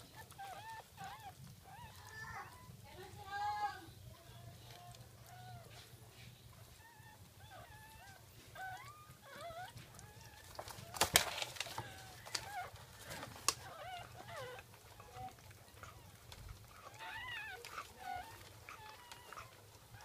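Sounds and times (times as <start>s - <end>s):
puppies squeaking and whimpering: 0.0s - 3.8s, 4.5s - 20.0s.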